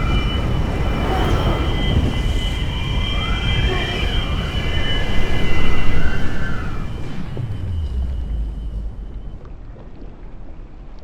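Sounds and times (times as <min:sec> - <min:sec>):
gliding tone: 0:00.0 - 0:10.1
high steady whines: 0:00.0 - 0:10.3
rush of wind and water: 0:00.0 - 0:11.0.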